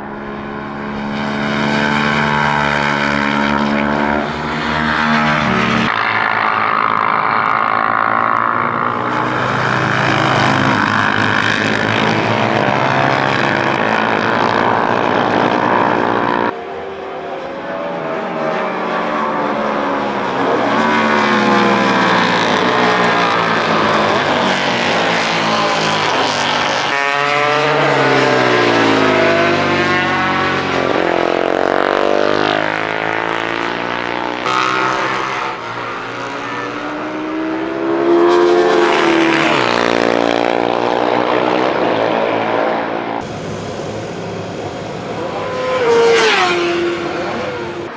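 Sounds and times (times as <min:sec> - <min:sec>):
racing motorcycles revving past: 0:00.0 - 0:47.9.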